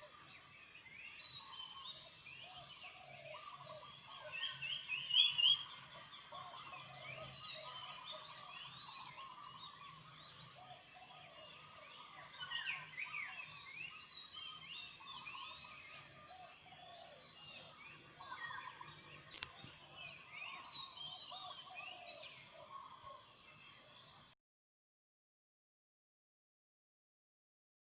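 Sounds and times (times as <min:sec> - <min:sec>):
birds chirping: 0:00.0 - 0:24.4.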